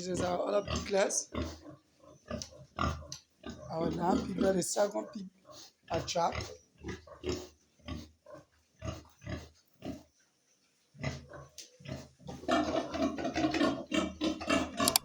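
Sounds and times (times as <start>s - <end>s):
many pigs calling together: 0.0s - 9.5s, 11.0s - 15.0s
pigs grunting: 0.0s - 10.1s, 11.0s - 15.0s.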